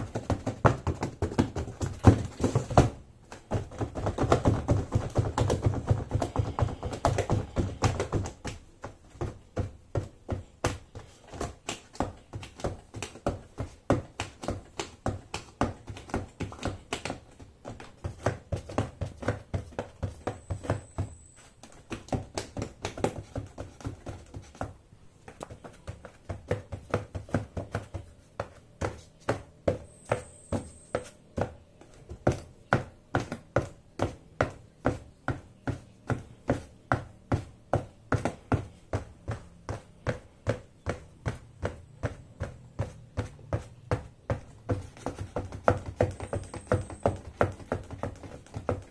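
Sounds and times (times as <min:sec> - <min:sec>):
shoes tapping on cardboard box: 0:00.0 - 0:48.9.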